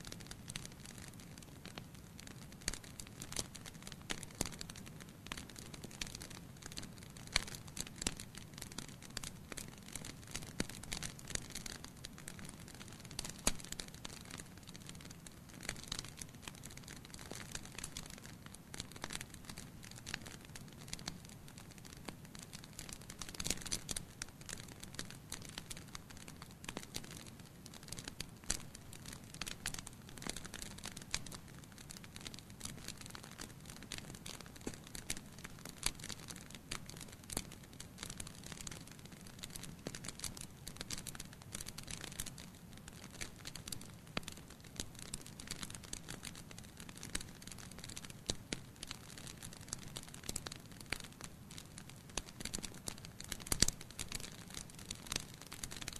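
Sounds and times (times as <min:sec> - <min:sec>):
wood fire crackling: 0:00.0 - 0:55.9
low rumble of flames: 0:00.2 - 0:52.5.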